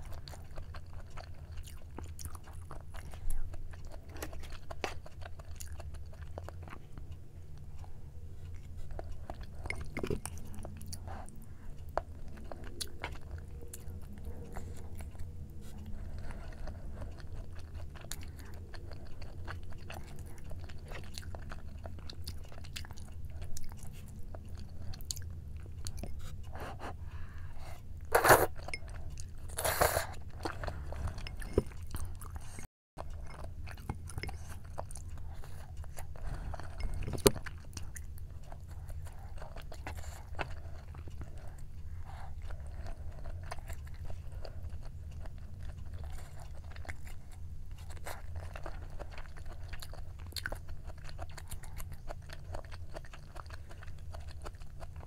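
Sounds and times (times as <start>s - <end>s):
low steady hum: 0.0s - 55.0s
wet chewing mouth sounds: 0.0s - 55.0s.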